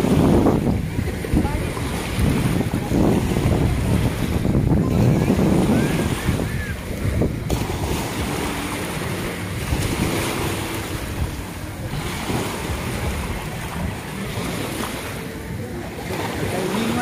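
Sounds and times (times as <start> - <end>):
faint jet ski hum: 0.0 - 17.0
small waves breaking: 0.0 - 17.0
wind buffeting microphone: 0.0 - 17.0.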